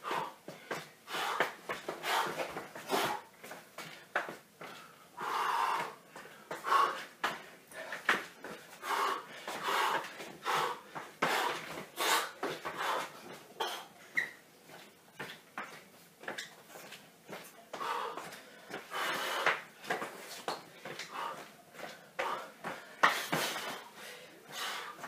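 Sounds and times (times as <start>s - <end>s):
man breathing hard: 0.0s - 13.4s, 17.7s - 25.0s
sneakers scuffing on tiled floor: 0.1s - 25.0s.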